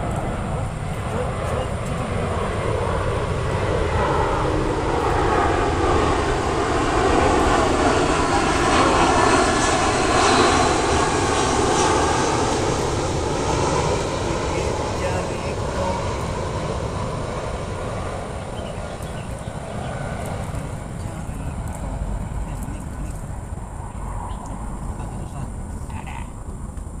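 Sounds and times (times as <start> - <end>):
rough low rumble: 0.0 - 27.0
steady engine drone: 0.0 - 27.0.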